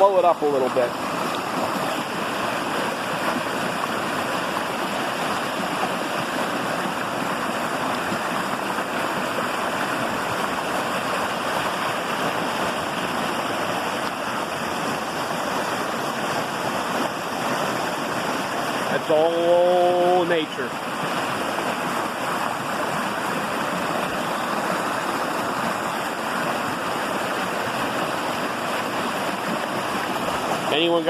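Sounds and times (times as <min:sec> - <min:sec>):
brook running over rocks: 0:00.0 - 0:31.0.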